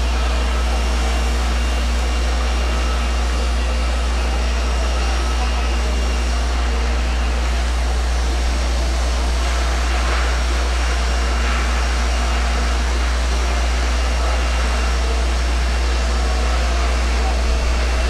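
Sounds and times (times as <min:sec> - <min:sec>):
low machine drone with hiss: 0:00.0 - 0:18.0.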